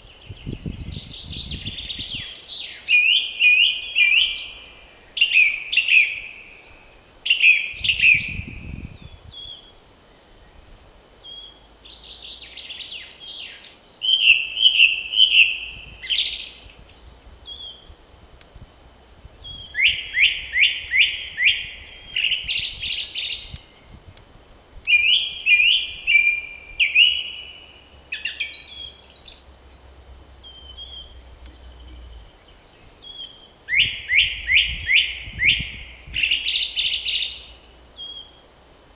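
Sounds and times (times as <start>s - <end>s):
faint wind rumble: 0.0s - 38.9s
songbirds chirping and trilling: 0.0s - 38.9s.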